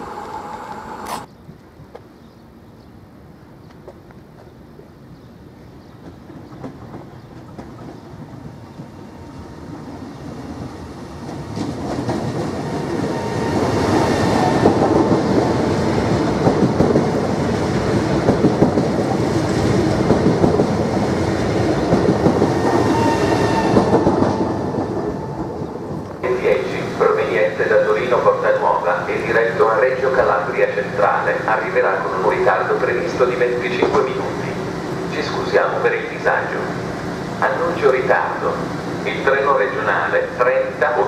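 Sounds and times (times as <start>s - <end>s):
electric train passing: 0.0s - 1.3s, 6.0s - 41.0s.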